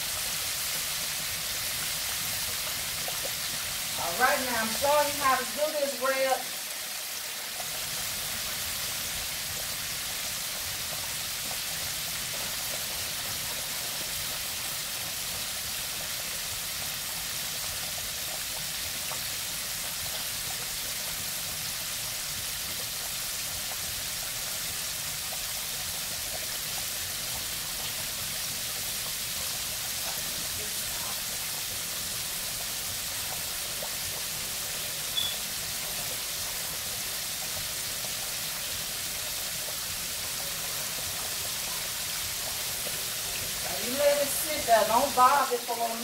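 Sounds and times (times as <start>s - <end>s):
chicken deep-frying in oil: 0.0s - 46.0s.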